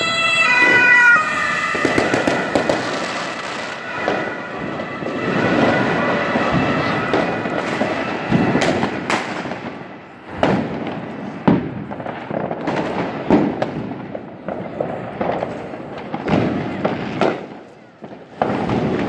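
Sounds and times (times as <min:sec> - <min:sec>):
distant fireworks explosions: 0:00.0 - 0:19.0
firecrackers banging: 0:00.0 - 0:19.0.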